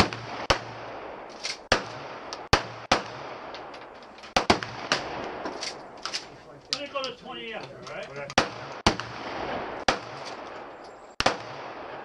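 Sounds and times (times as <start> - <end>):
pistol gunshots echoing: 0.0 - 6.2, 8.3 - 12.0.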